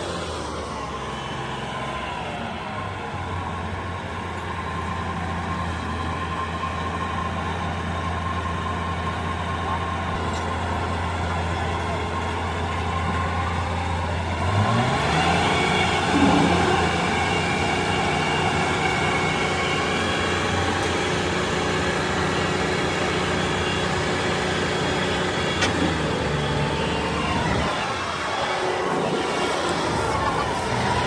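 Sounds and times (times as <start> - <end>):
combine harvester engine running: 0.0 - 31.0
dense mechanical noise: 0.0 - 31.0.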